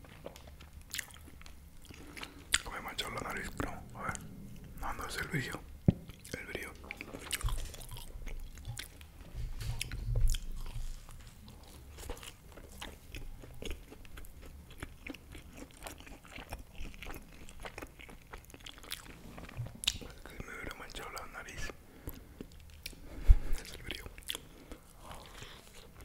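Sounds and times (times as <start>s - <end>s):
chewing with wet mouth clicks: 0.0s - 23.0s, 23.6s - 26.0s.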